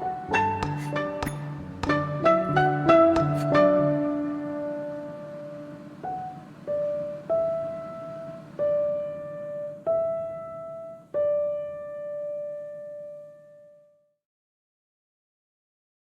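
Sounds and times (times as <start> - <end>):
slow piano melody: 0.0 - 14.1.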